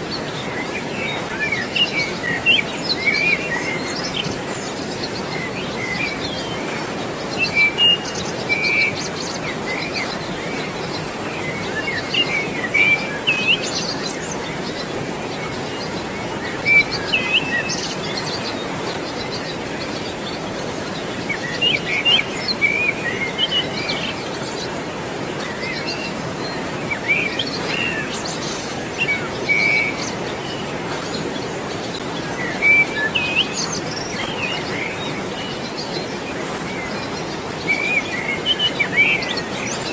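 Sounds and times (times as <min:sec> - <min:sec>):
flowing water: 0:00.0 - 0:39.9
small birds chirping: 0:00.0 - 0:39.9.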